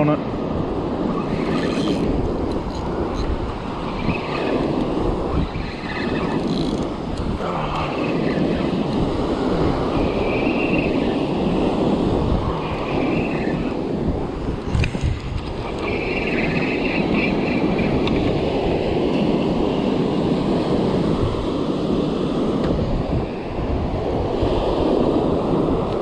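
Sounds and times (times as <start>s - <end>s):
surf breaking on a beach: 0.0s - 26.0s
wind buffeting microphone: 0.0s - 26.0s.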